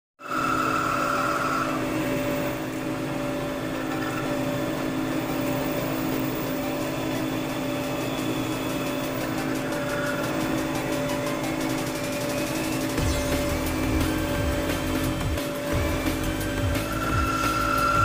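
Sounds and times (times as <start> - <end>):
high-pitched whine: 0.2 - 18.0
lathe motor humming: 0.2 - 18.0.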